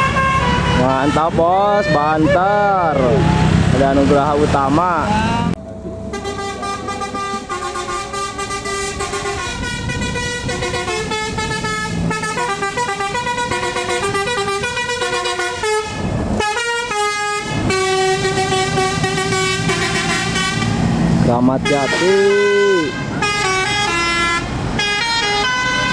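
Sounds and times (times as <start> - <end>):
multi-tone musical bus horn: 0.0 - 3.6, 4.9 - 25.9.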